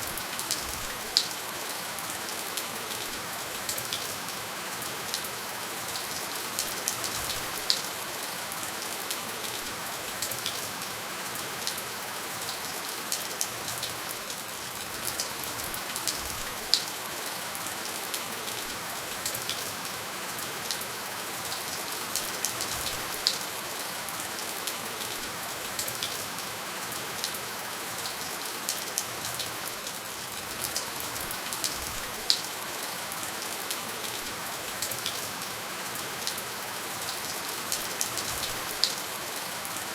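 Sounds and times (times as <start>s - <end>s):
raindrops ticking on a surface: 0.0s - 39.9s
steady gentle rain hiss: 0.0s - 39.9s.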